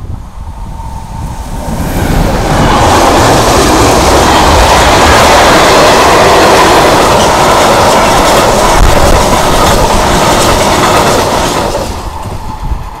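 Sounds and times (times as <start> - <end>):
train wheels clattering on rails: 1.6 - 13.0.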